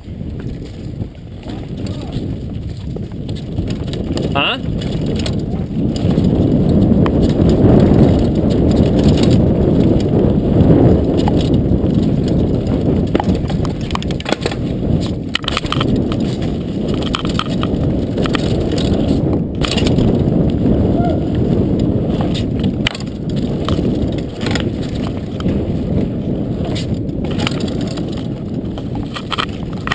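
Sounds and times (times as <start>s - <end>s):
bike knocks and rattles: 0.0s - 29.9s
bike tyres rumbling on dirt: 0.0s - 29.9s
wind on microphone: 0.0s - 29.9s.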